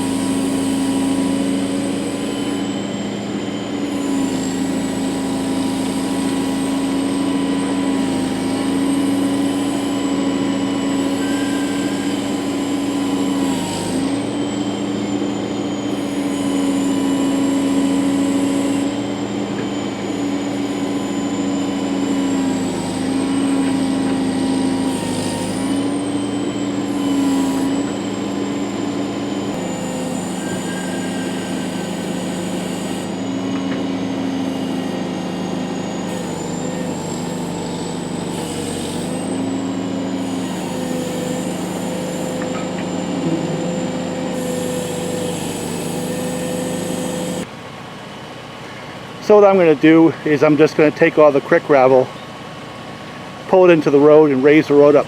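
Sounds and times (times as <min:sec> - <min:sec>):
backhoe diesel engine running: 0:00.0 - 0:49.2
high hydraulic whine: 0:00.0 - 0:55.0.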